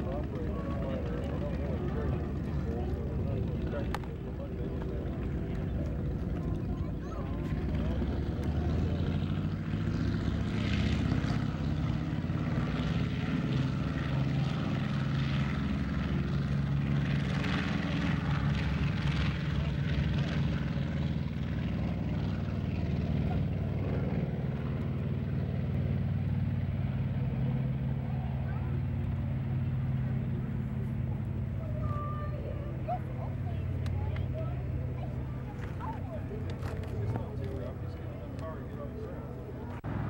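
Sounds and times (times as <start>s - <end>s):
propeller plane engines at takeoff: 0.0s - 40.0s.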